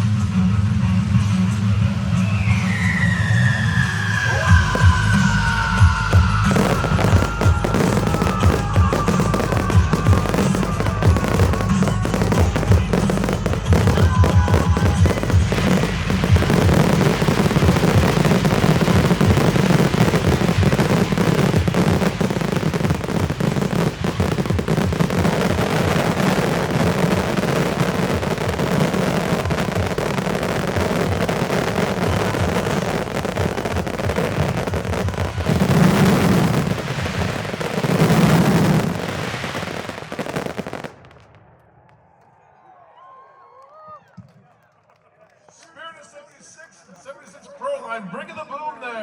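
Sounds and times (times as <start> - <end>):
fireworks barrage: 0.0 - 42.2.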